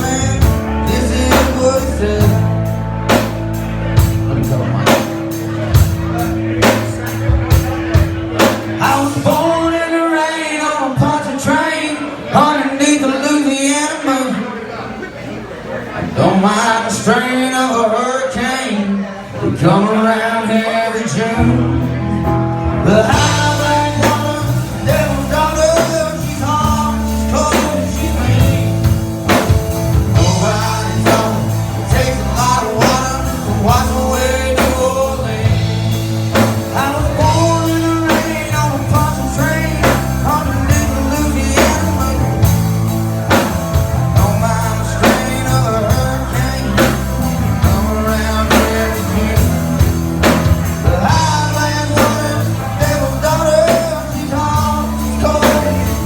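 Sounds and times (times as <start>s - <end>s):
blues-rock band playing: 0.0s - 11.0s, 20.5s - 56.0s.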